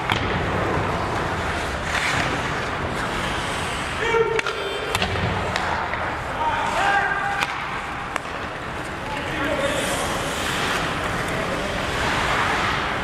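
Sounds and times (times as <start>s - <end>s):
hockey sticks and puck clacking: 0.0s - 13.0s
skates scraping on ice: 0.0s - 13.0s.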